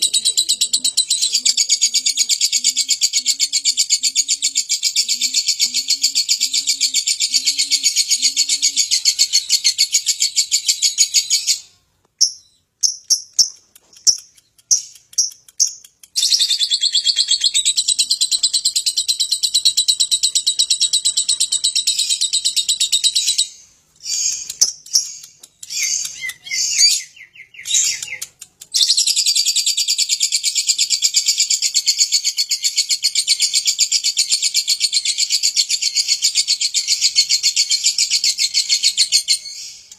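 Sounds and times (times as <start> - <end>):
bird rapid high chattering: 0.0 - 11.6, 12.2 - 39.9.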